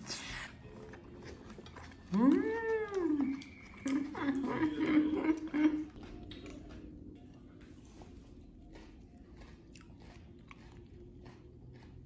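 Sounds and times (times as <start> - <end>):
chewing and mouth sounds: 0.0 - 12.0
low background hum: 0.0 - 12.0.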